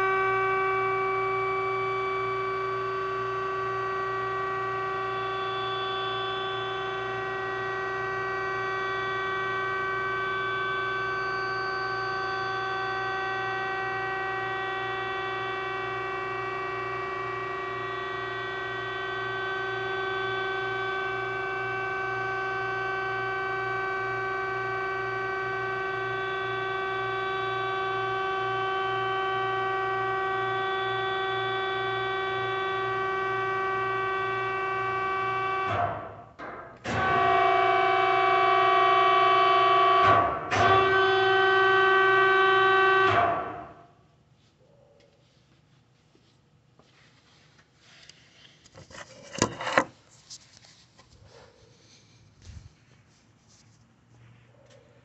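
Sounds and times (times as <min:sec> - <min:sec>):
hydraulic power unit whining hum: 0:00.0 - 0:55.0.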